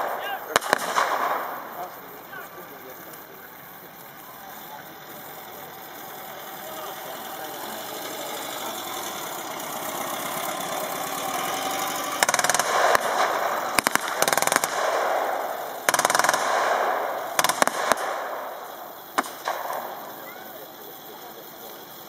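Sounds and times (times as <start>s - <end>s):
machine gun firing bursts: 0.0s - 3.8s, 4.5s - 20.2s
engine running: 0.0s - 22.0s.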